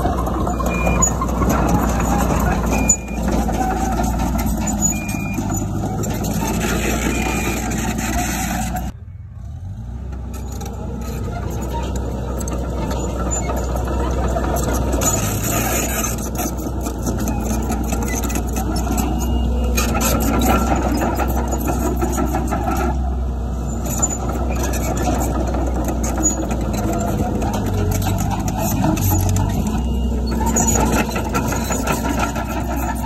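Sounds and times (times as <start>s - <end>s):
diesel engine drone: 0.0s - 33.0s.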